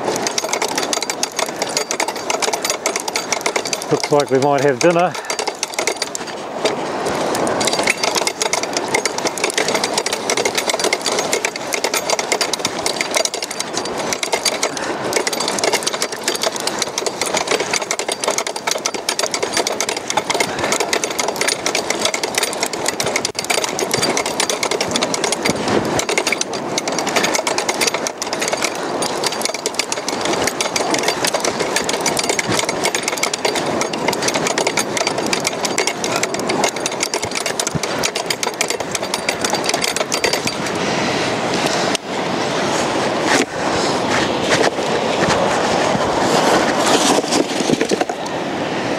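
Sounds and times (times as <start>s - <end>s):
winch motor running: 0.0s - 43.5s.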